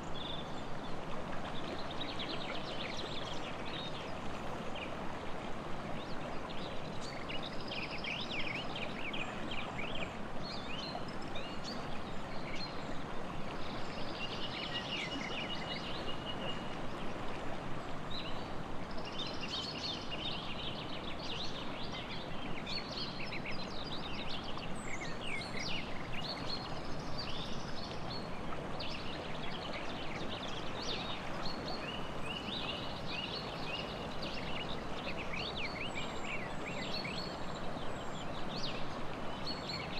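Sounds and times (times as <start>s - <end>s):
songbirds chirping and trilling: 0.0s - 39.9s
stream rushing: 0.0s - 39.9s.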